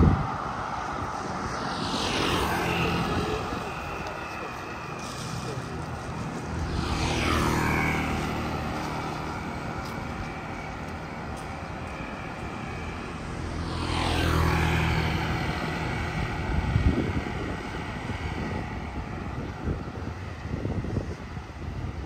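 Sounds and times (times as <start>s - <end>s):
engines passing by humming: 0.0s - 22.0s.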